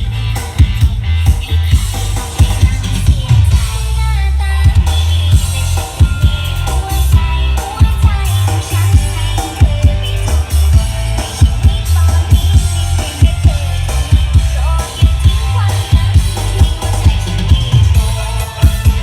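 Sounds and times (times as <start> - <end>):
music with heavy bass and drums: 0.0 - 19.0.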